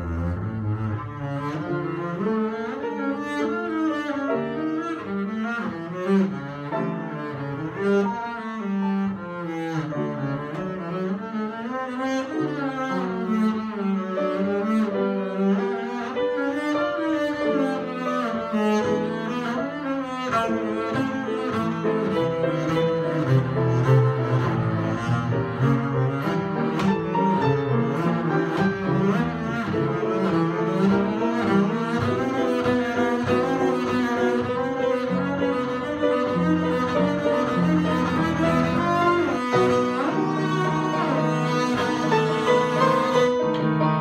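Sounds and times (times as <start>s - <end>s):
bowed double bass: 0.0s - 44.0s.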